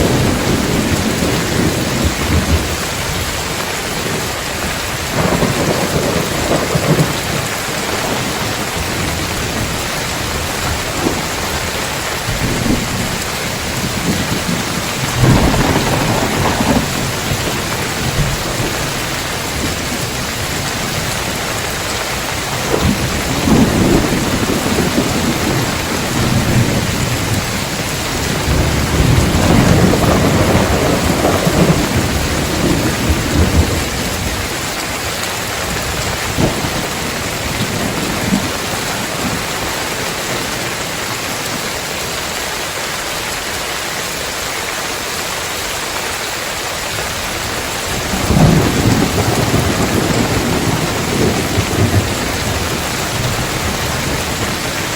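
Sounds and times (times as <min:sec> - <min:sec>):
thunder crack: 0:00.0 - 0:04.2, 0:05.0 - 0:21.4, 0:22.4 - 0:34.6, 0:35.8 - 0:40.7, 0:47.5 - 0:54.9
rolling thunder: 0:00.0 - 0:41.7, 0:47.1 - 0:54.9
heavy rain on a tiled roof: 0:00.0 - 0:54.9.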